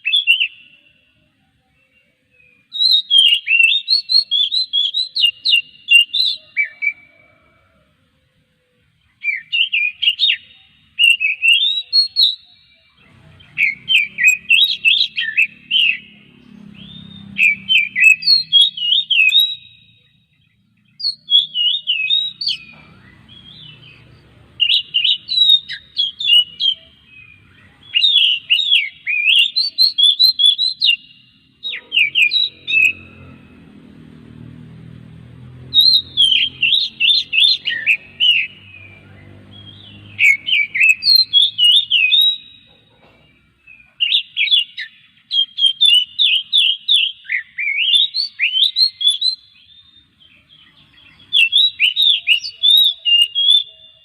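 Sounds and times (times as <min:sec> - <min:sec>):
bird singing whistled notes: 0:00.0 - 0:07.6, 0:09.0 - 0:33.6, 0:35.6 - 0:54.0.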